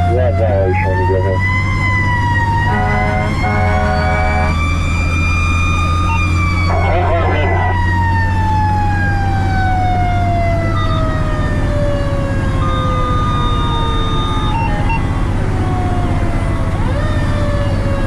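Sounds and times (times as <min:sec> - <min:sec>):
fire truck siren winding: 0:00.0 - 0:18.0
truck engine rumble: 0:00.0 - 0:18.0.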